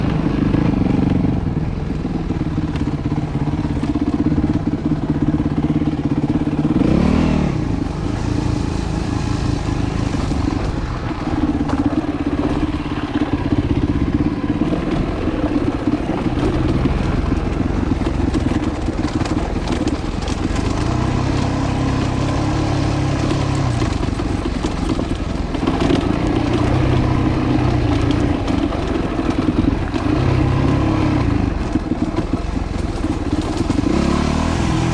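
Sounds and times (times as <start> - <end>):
dirt bike engine revving: 5.1 - 34.9.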